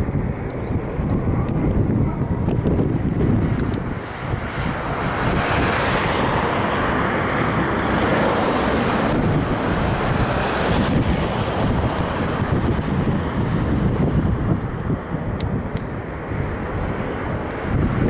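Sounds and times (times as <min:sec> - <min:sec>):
volcanic eruption roaring: 0:00.0 - 0:18.0
wind buffeting microphone: 0:00.0 - 0:18.0.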